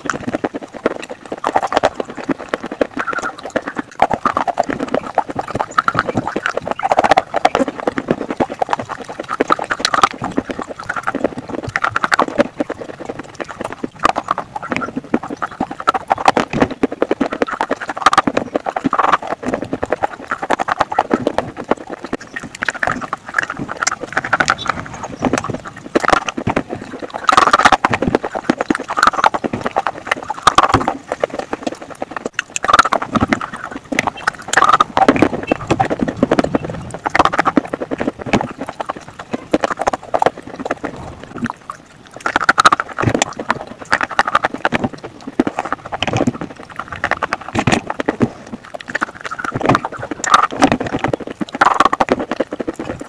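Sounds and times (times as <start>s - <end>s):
chewing slate pencils crunching: 0.0s - 53.0s.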